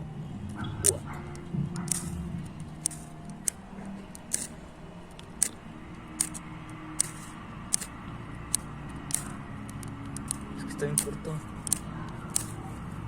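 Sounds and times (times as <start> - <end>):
flint striker rasping: 0.8 - 13.0.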